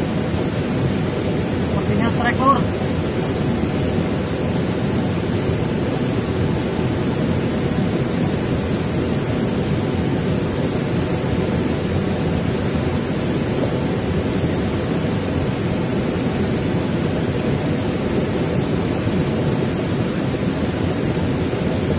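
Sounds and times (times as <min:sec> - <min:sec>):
river rushing: 0:00.0 - 0:21.9.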